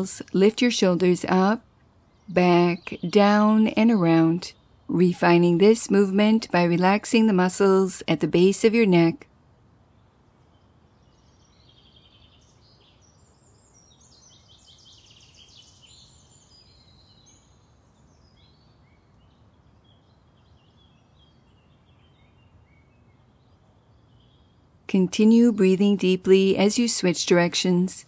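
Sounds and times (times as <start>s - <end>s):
birds chirping: 0.0s - 9.2s, 9.9s - 28.0s
outdoor background hiss: 0.0s - 28.0s.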